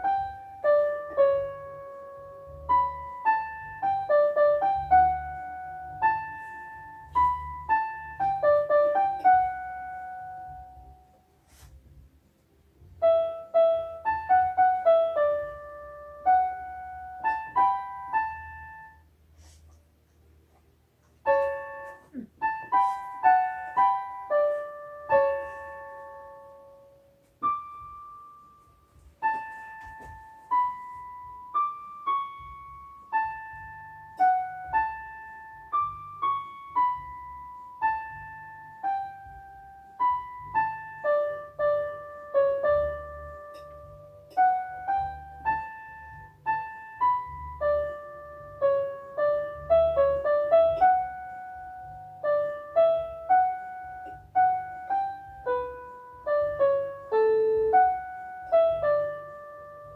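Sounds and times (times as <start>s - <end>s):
keyboard piano melody: 0.0s - 59.9s.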